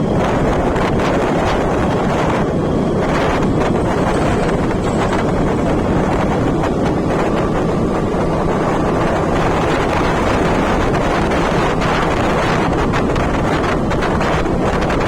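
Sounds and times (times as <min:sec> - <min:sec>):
low rumble: 0:00.0 - 0:14.1
wind buffeting microphone: 0:00.0 - 0:15.0.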